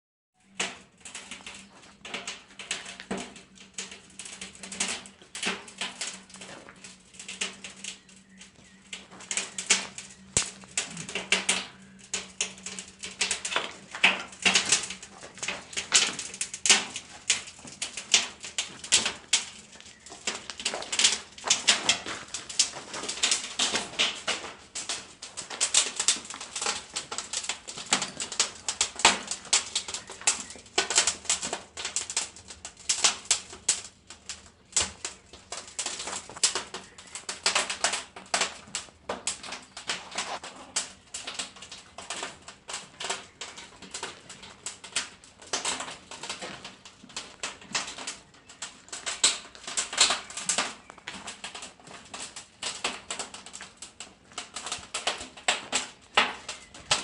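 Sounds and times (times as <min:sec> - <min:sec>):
wood fire crackling: 0:00.4 - 0:57.0.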